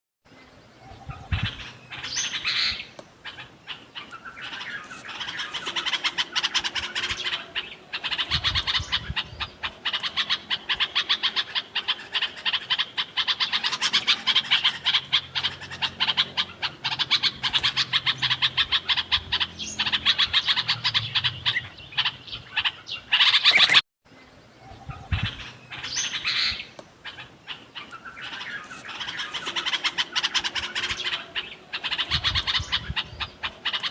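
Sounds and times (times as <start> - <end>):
bulbuls chirping: 0.3 - 33.9.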